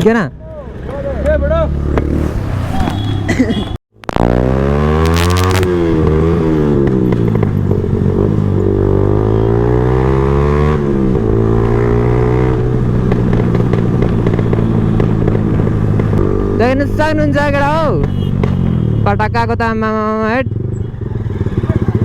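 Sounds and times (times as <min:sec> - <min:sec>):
motorcycle engine revving: 0:00.6 - 0:22.0.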